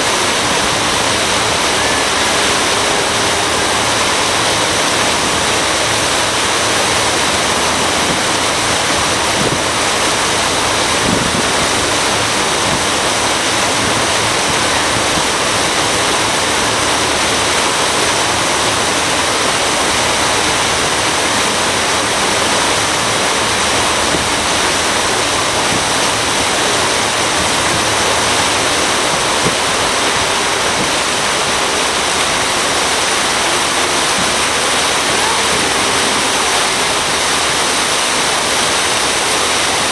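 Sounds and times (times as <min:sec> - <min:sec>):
water rushing past boat hull: 0:00.0 - 0:39.9.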